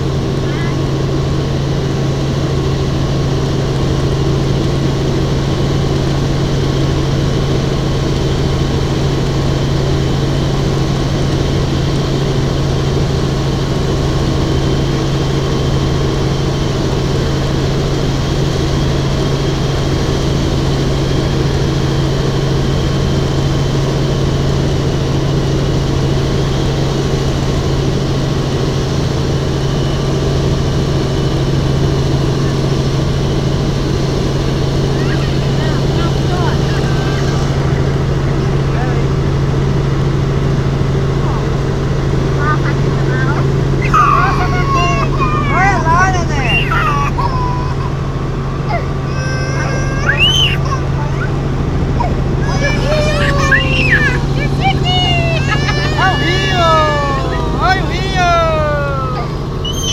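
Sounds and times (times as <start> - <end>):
helicopter cabin drone: 0.0 - 59.9.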